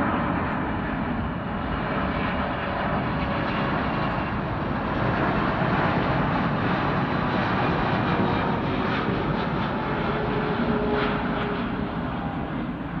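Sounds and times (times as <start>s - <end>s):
jet engines rumbling overhead: 0.0s - 13.0s.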